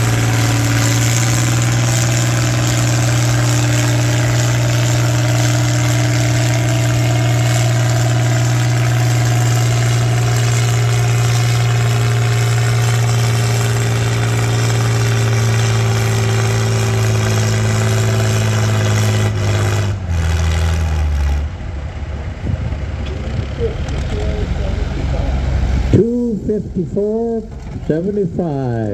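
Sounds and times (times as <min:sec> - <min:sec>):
tractor engine under load: 0:00.0 - 0:28.9.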